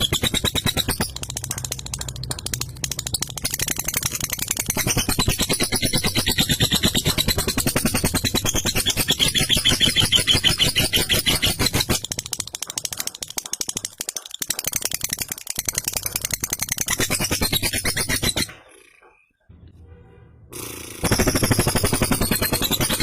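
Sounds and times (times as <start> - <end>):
lovebird chattering trill: 0.0 - 19.1.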